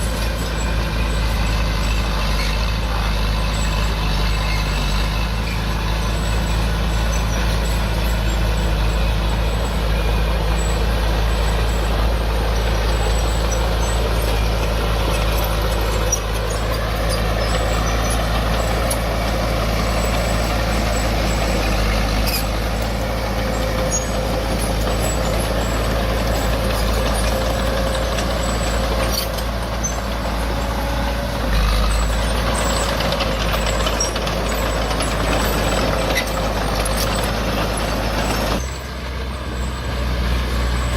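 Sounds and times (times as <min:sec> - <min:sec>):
diesel engine of heavy machinery: 0:00.0 - 0:40.9.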